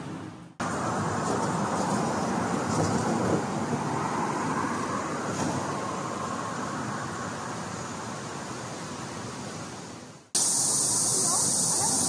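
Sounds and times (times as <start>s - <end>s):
rushing traffic noise: 0.0s - 12.0s.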